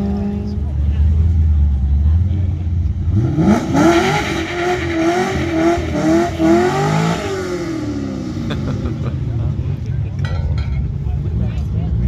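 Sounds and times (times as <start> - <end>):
race car engine revving: 0.0 - 9.9.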